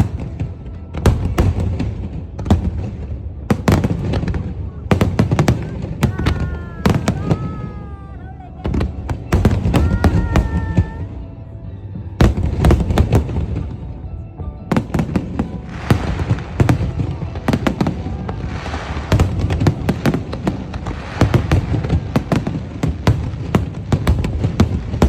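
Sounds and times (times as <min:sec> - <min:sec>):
fireworks bangs: 0:00.0 - 0:11.2, 0:12.2 - 0:13.9, 0:14.7 - 0:25.0
fireworks crackling: 0:00.0 - 0:11.3, 0:12.2 - 0:14.0, 0:14.7 - 0:25.0.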